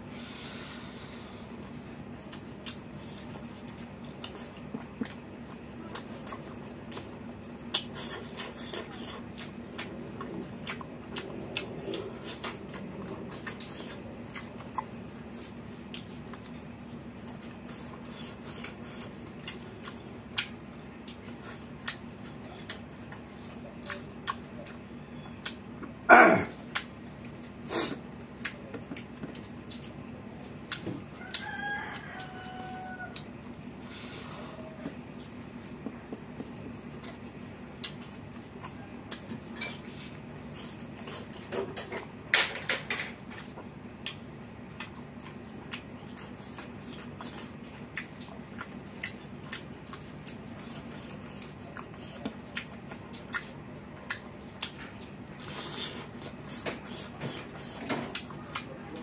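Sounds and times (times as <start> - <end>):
low steady hum: 0.0 - 59.0
chewing and lip-smacking: 1.4 - 59.0.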